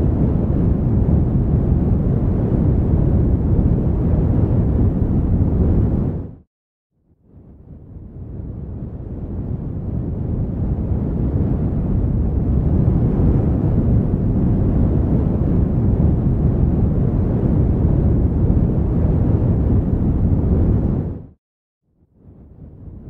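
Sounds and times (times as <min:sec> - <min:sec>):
wind rumbling on microphone: 0:00.0 - 0:06.4, 0:07.1 - 0:21.4, 0:22.0 - 0:23.0.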